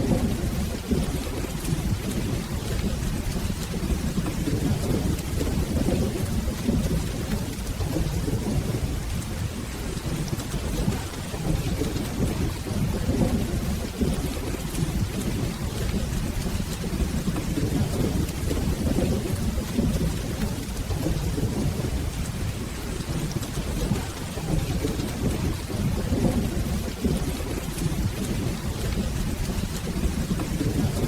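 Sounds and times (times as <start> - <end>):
rolling thunder: 0.0 - 31.0
steady rain: 0.0 - 31.0.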